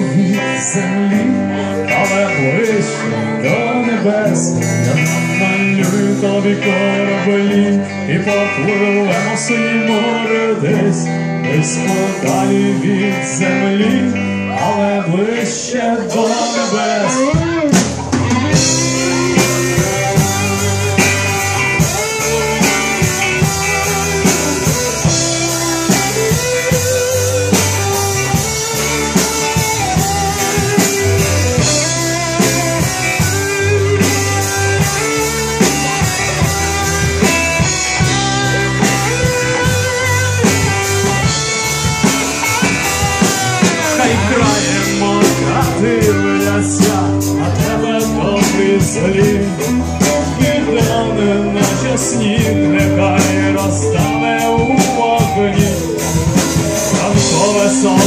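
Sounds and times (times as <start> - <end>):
bass: 0.0 - 58.0
drum kit beat: 0.0 - 58.0
lead guitar line with bent notes: 0.0 - 58.0.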